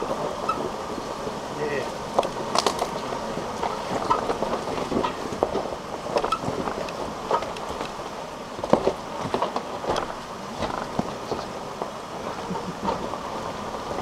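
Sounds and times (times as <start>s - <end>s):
knocks and rattles of vehicle: 0.0s - 14.0s
vehicle engine drone: 0.0s - 14.0s.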